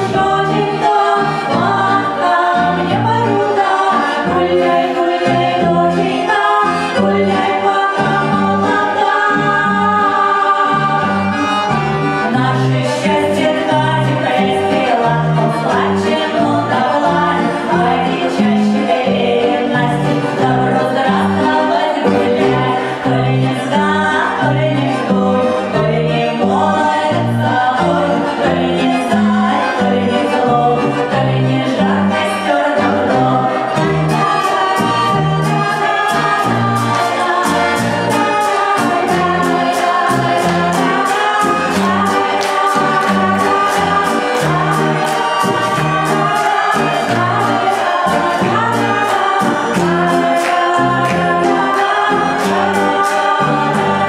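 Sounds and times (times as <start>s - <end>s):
women singing: 0.0s - 11.6s, 12.2s - 54.0s
acoustic guitar: 0.0s - 54.0s
plucked double bass: 0.0s - 54.0s.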